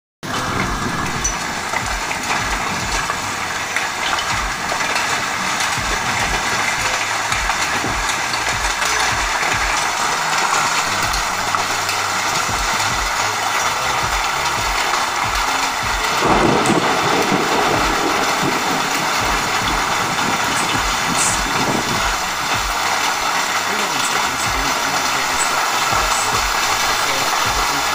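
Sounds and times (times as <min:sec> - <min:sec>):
low regular thudding: 0:00.2 - 0:23.7
heavy rain pouring: 0:00.2 - 0:27.9.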